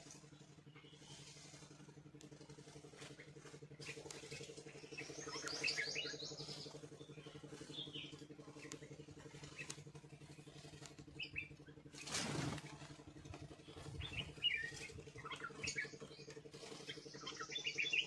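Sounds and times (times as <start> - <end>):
small birds chirping: 0.0 - 18.0
steady low hum: 0.0 - 18.0.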